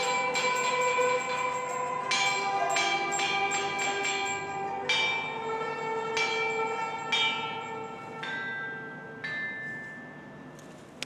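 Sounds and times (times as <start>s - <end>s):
chime bells playing melody: 0.0s - 10.8s.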